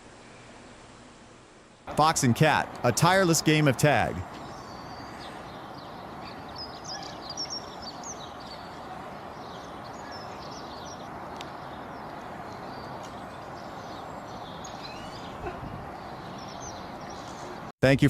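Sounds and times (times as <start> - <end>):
small birds chirping: 1.9 - 17.7.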